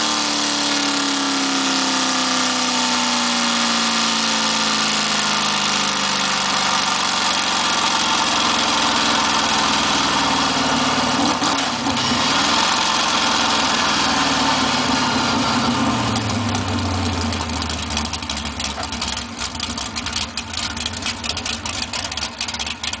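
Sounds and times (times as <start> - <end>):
engine running then idling: 0.0 - 23.0.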